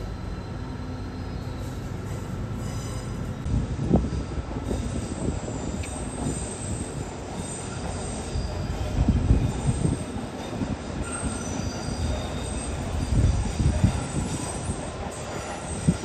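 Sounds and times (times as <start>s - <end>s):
train rumbling: 0.0s - 16.0s
faint wheel squeal: 0.3s - 3.4s, 4.0s - 16.0s.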